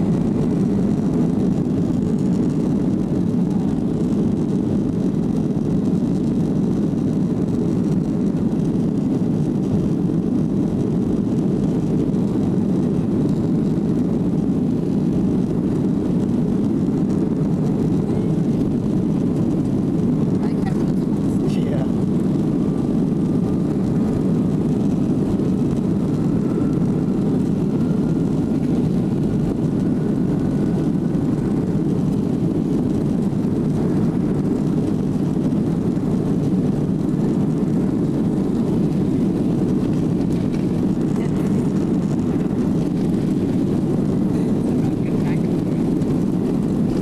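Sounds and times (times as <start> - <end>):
jet engines low roar: 0.0 - 47.0
faint thin whine: 5.8 - 47.0.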